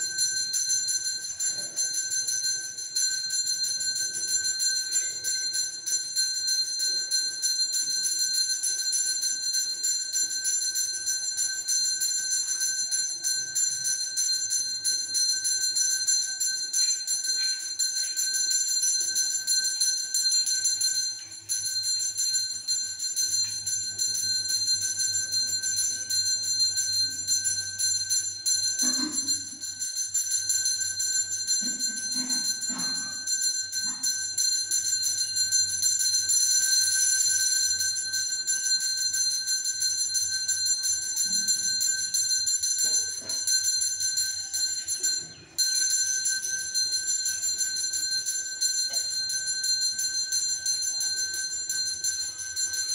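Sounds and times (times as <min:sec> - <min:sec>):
temple bell ringing: 0:00.0 - 0:52.9.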